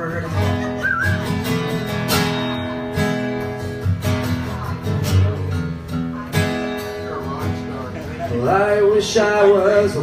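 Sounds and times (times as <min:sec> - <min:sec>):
acoustic guitar strummed: 0:00.0 - 0:10.0.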